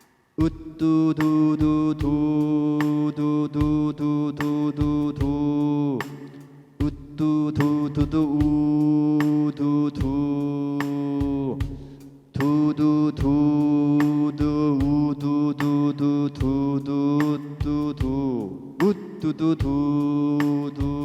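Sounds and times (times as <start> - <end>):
man singing du syllables: 0.0 - 21.0.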